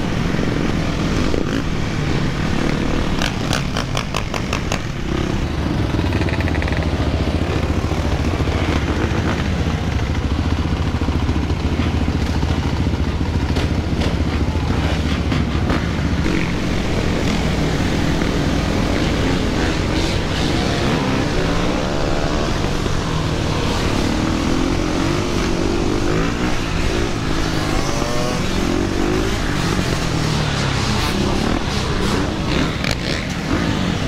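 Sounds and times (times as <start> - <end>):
dirt bike and atv engines droning: 0.0 - 34.0.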